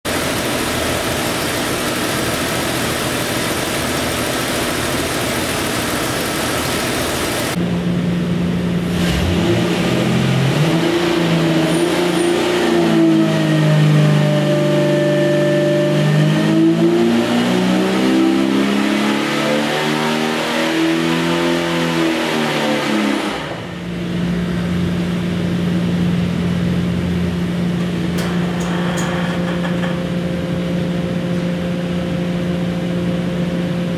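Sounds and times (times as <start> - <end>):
engine running on a dyno: 0.0 - 33.9.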